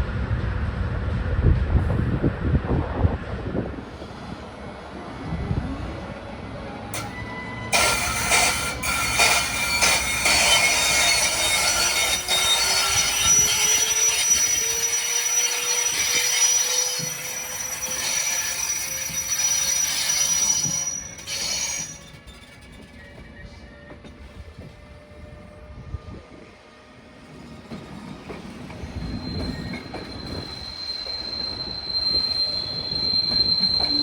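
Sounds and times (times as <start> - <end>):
dense train clatter: 0.0 - 34.0
train wheels squealing on rails: 3.7 - 34.0.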